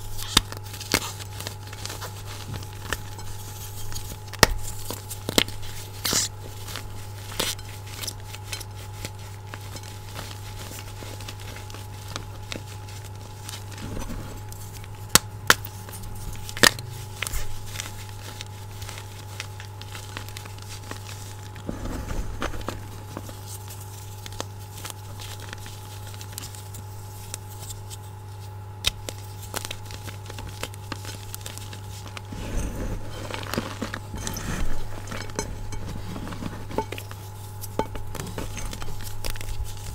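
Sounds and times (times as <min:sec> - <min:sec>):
hands crumbling chalk in a bowl: 0:00.0 - 0:39.9.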